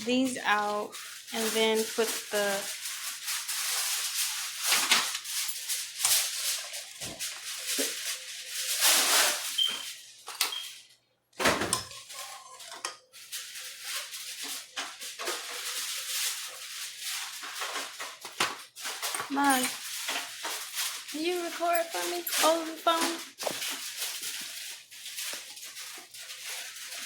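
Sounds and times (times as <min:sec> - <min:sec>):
cookware rattling and clattering: 0:00.0 - 0:10.8, 0:11.4 - 0:27.0.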